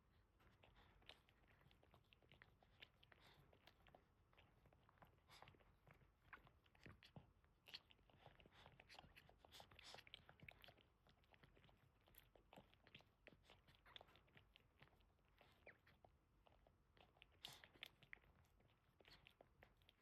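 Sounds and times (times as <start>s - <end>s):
dog licking puppy: 0.0s - 20.0s.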